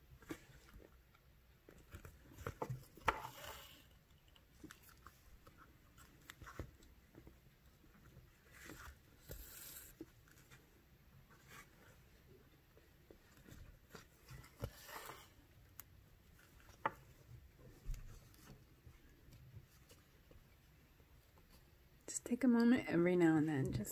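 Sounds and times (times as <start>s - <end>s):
thread rustling through fabric: 0.0s - 21.9s.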